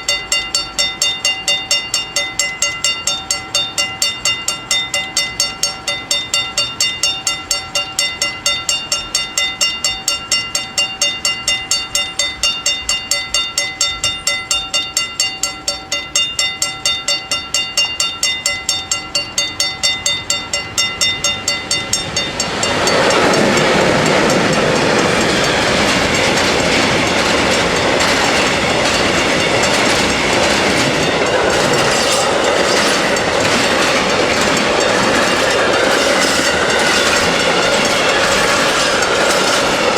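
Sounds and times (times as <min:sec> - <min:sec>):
level crossing warning bells: 0:00.0 - 0:39.9
train wheels rushing on rails: 0:00.0 - 0:39.9.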